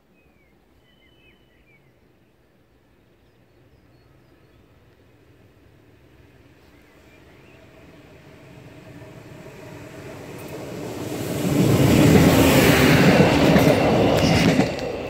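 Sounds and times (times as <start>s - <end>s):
passenger train passing: 2.4s - 15.0s.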